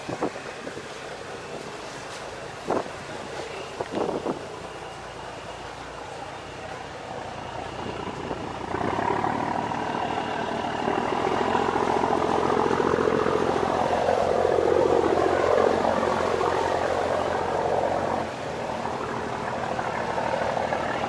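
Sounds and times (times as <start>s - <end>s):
boat engine throbbing: 0.0s - 21.0s.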